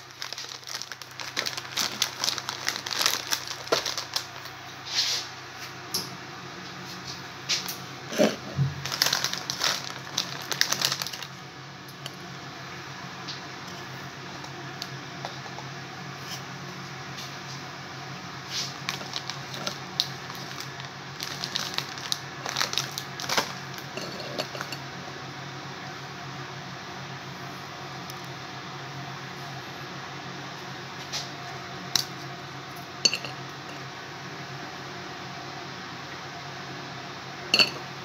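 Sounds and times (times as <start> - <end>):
low steady hum: 0.0 - 4.8, 5.4 - 38.0.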